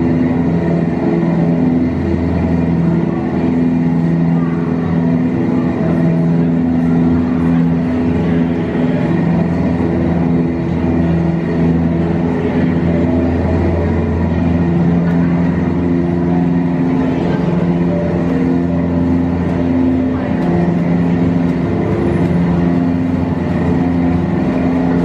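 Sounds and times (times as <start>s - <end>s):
boat motor running: 0.0s - 25.0s
low shifting tones: 0.0s - 25.0s.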